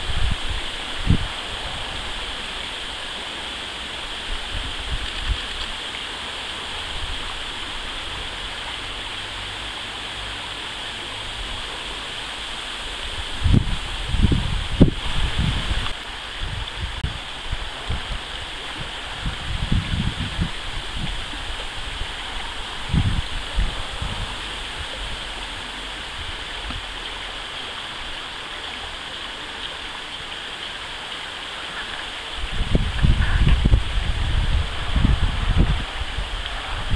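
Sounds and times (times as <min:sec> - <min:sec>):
wind rumble on microphone: 0:00.0 - 0:28.1, 0:31.7 - 0:36.9
stream running over stones: 0:00.0 - 0:36.9.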